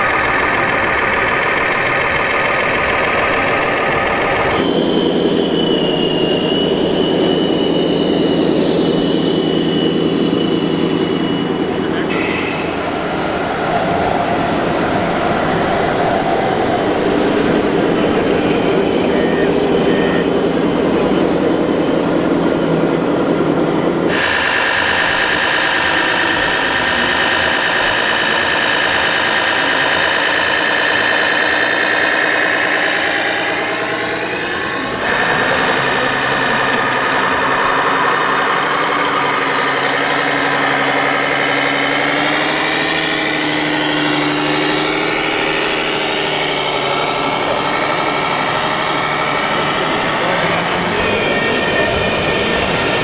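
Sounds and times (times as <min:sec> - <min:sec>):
electric motor and pump whine: 0:00.0 - 0:53.0
engine-like hum: 0:00.0 - 0:53.0.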